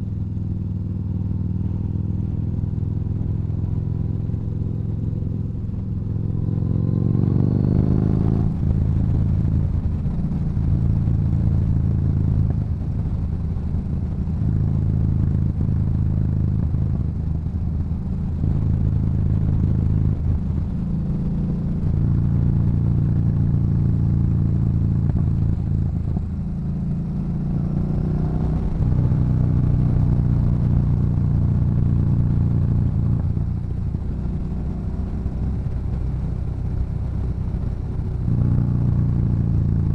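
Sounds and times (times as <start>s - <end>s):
motorcycle engine revving while riding: 0.0s - 39.9s.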